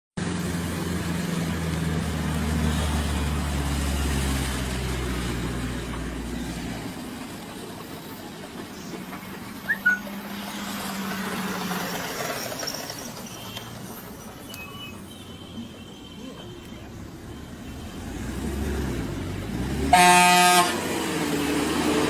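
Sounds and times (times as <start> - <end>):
heavy truck engine running: 0.2 - 22.0
road noise: 0.2 - 22.0.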